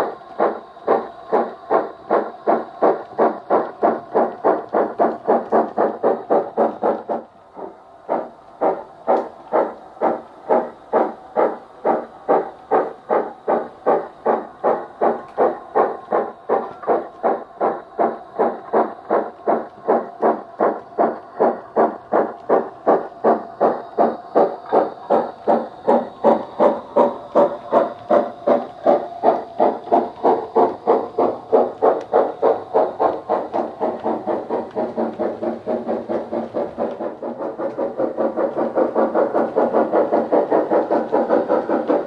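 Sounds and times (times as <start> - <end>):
steam chuffs through a speaker: 0.0 - 42.0.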